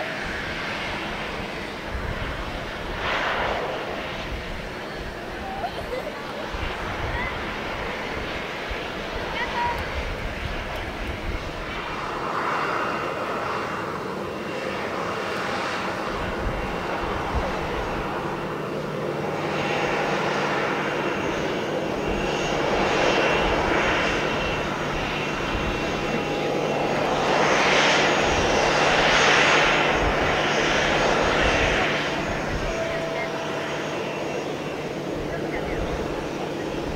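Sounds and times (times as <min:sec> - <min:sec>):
jet engines taxiing: 0:00.0 - 0:36.9.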